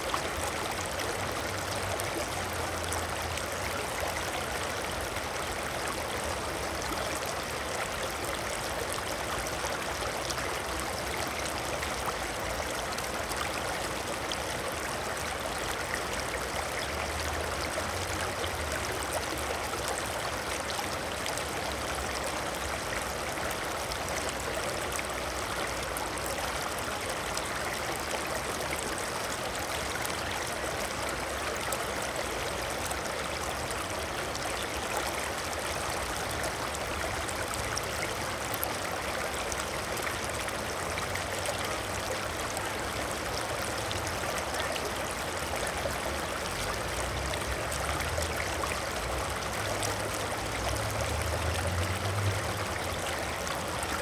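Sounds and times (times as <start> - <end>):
water flowing like a stream: 0.0 - 54.0.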